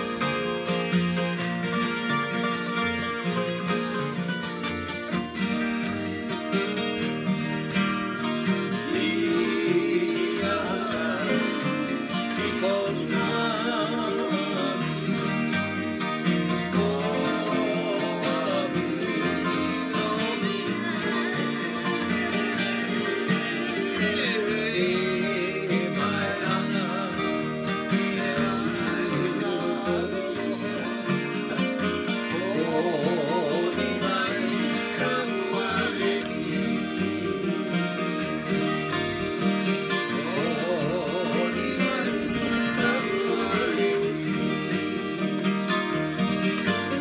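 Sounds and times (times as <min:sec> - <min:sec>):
acoustic guitar picking melody: 0:00.0 - 0:47.0
acoustic guitar strumming: 0:00.0 - 0:47.0.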